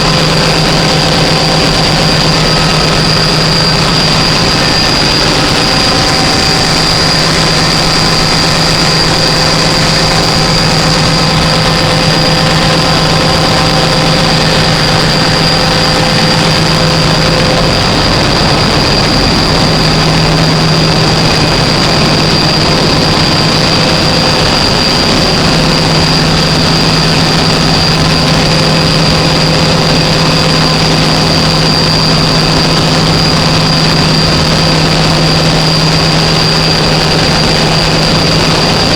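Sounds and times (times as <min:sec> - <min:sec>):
generator engine drone: 0:00.0 - 0:38.9
thin high whine: 0:00.0 - 0:38.9.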